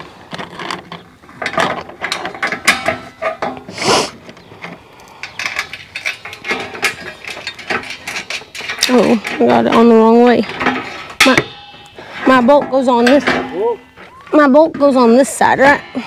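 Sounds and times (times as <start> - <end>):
metal bolts clicking and rattling: 0.3 - 3.7, 4.6 - 15.2.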